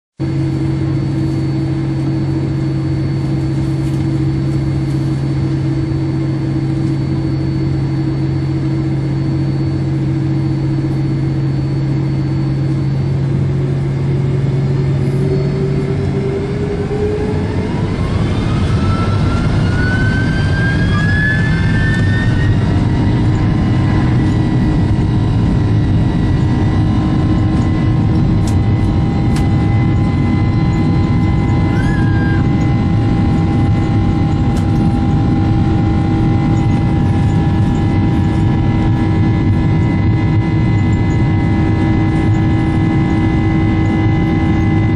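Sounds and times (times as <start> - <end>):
jet engines spooling up: 0.2 - 44.9.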